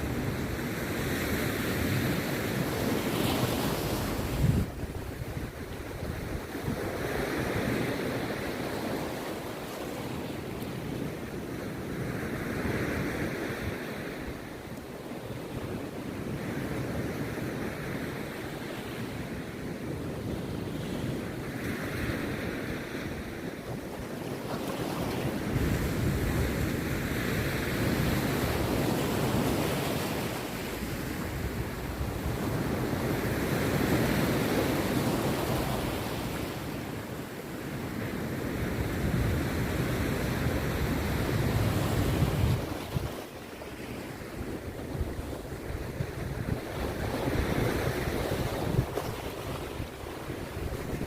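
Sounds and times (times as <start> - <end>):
waves crashing on a beach: 0.0 - 51.0.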